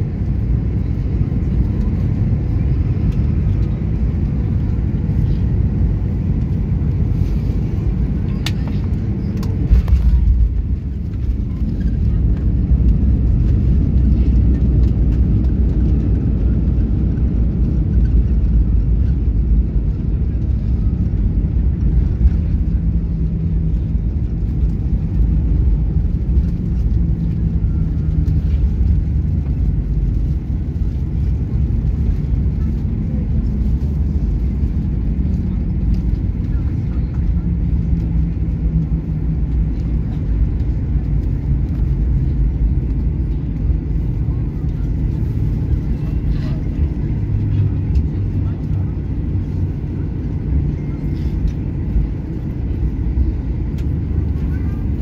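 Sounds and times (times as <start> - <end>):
airliner cabin engine roar: 0.0 - 55.0
runway rumble: 0.0 - 55.0.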